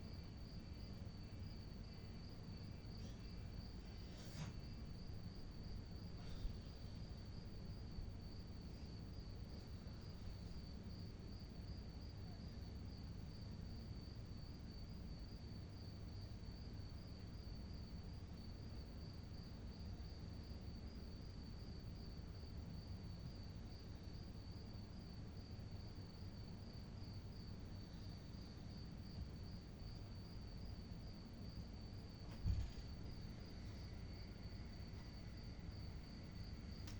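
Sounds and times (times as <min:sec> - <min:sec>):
cricket trilling: 0:00.0 - 0:36.9.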